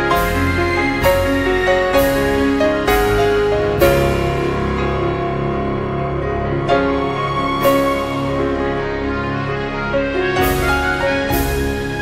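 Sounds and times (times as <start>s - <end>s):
slow gentle instrumental music: 0.0s - 12.0s.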